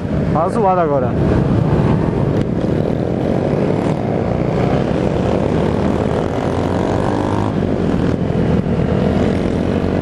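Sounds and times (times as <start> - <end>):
motorcycle engines running: 0.0 - 10.0
motorcycle engine revving: 1.2 - 10.0.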